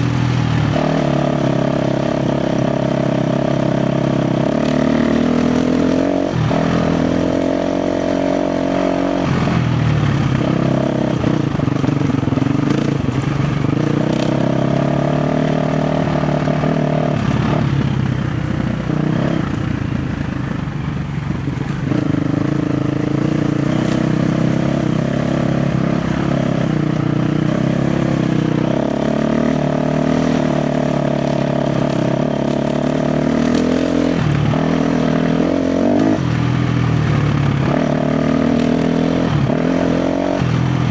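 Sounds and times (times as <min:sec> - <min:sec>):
dirt bike engine revving: 0:00.0 - 0:18.1, 0:21.7 - 0:40.9.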